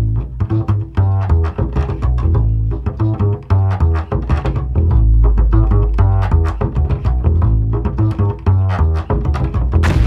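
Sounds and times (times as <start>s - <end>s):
plucked bass line music: 0.0s - 10.0s.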